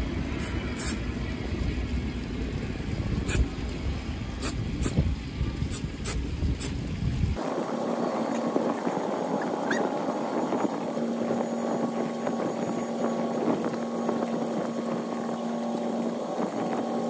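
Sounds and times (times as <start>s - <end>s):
low motor hum: 0.0s - 17.0s
water: 0.0s - 17.0s
wind: 0.0s - 17.0s.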